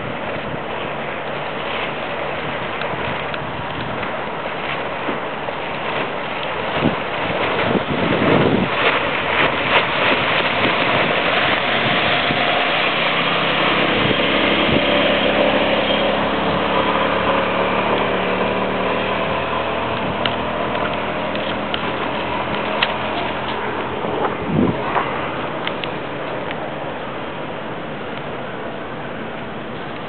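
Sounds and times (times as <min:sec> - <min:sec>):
outboard boat engine at speed: 0:00.0 - 0:30.0
water washing from wake: 0:00.0 - 0:30.0
wind buffeting microphone: 0:00.0 - 0:30.0.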